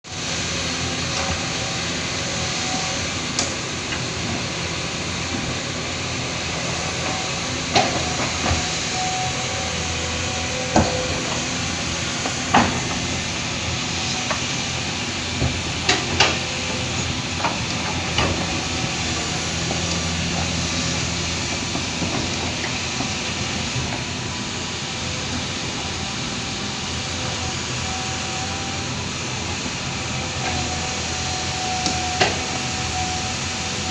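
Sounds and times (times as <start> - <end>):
heavy machinery engine drone: 0.0 - 33.9.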